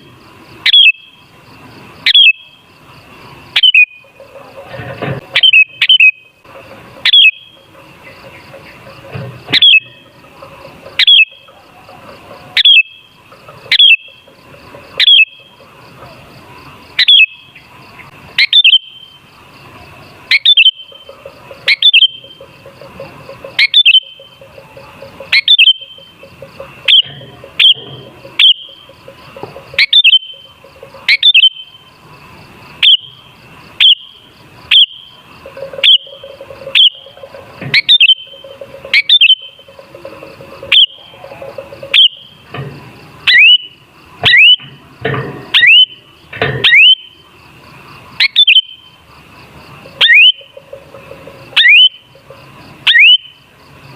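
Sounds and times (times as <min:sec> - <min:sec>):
bulbul sharp calls: 0:00.6 - 0:01.2, 0:02.0 - 0:02.6, 0:03.5 - 0:16.2, 0:16.9 - 0:19.2, 0:20.2 - 0:31.8, 0:32.8 - 0:42.6, 0:43.2 - 0:44.7, 0:45.5 - 0:47.2, 0:48.2 - 0:48.9, 0:49.9 - 0:53.4.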